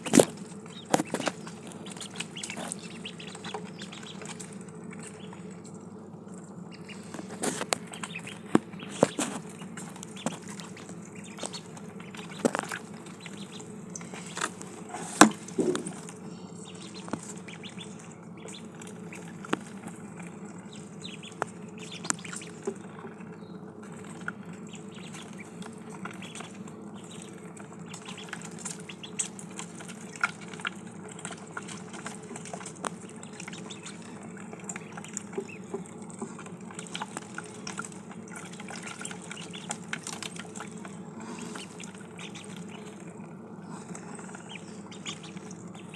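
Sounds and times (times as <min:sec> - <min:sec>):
small splashes: 0:00.0 - 0:05.8, 0:06.7 - 0:23.2, 0:23.9 - 0:45.9
ducklings pecking at water: 0:00.0 - 0:45.9
steady low hum: 0:00.0 - 0:45.9.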